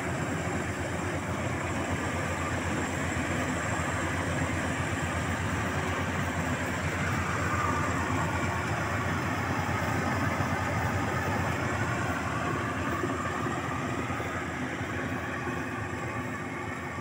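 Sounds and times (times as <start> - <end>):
combine harvester droning: 0.0 - 17.0.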